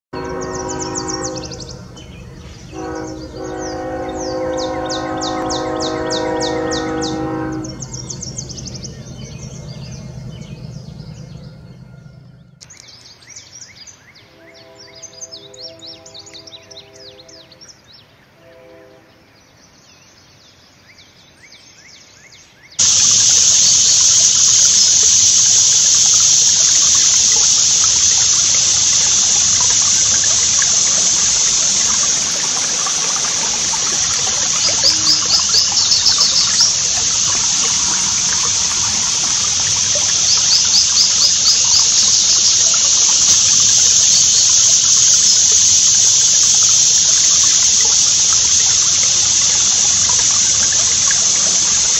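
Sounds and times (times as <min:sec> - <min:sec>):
creek water running: 0:00.0 - 0:13.6, 0:22.8 - 0:51.9.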